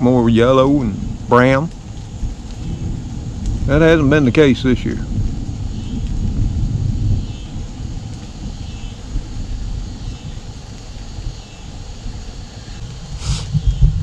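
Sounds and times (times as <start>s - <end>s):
distant thunder rumbling: 0.0s - 14.0s
light rain hiss: 0.0s - 14.0s.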